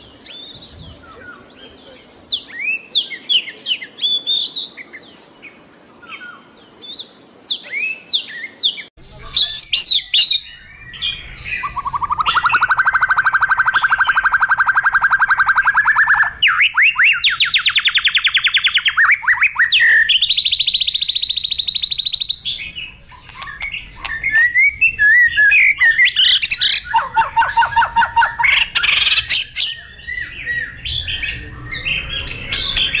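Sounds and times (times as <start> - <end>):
songbird singing varied trills: 0.0 - 33.0.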